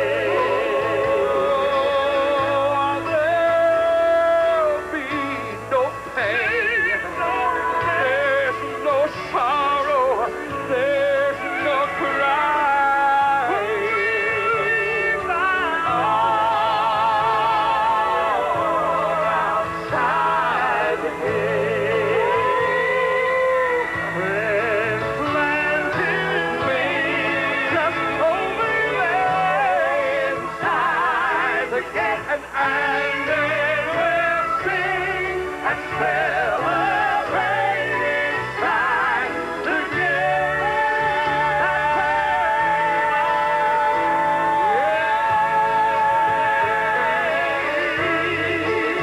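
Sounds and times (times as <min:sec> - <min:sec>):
instrumental backing with bass: 0:00.0 - 0:49.0
vocal group singing gospel: 0:00.0 - 0:49.0.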